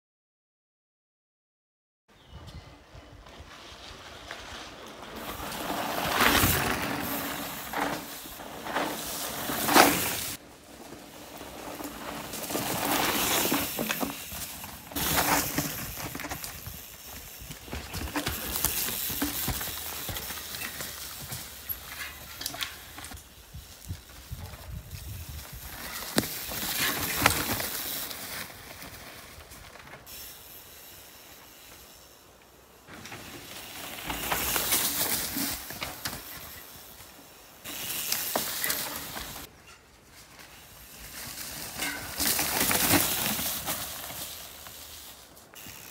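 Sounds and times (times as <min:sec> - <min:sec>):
bike tyres rolling over dirt: 0:02.8 - 0:45.9.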